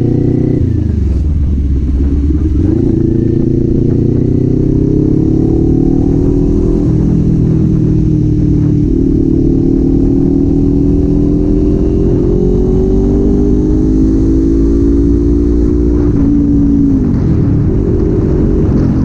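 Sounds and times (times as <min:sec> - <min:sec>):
road rumble: 0:00.0 - 0:19.0.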